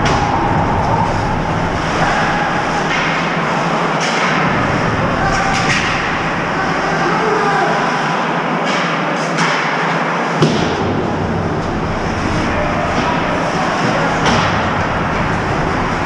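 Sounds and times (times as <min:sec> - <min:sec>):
arena hum: 0:00.0 - 0:07.9, 0:10.8 - 0:16.0.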